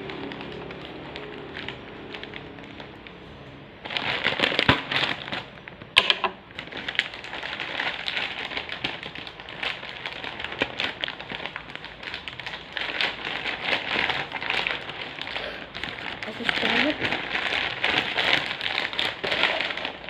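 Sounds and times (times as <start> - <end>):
packaging crackling and rustling: 0.0 - 20.0.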